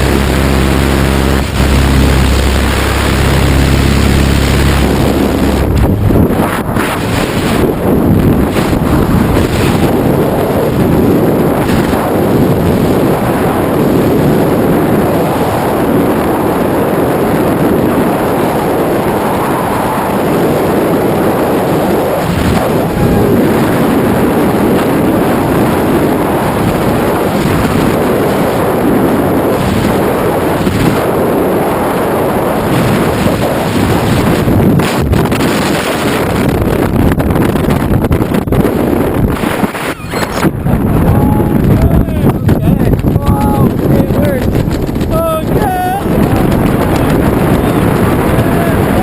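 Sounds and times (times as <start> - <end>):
wind rushing on microphone: 0.0 - 49.0.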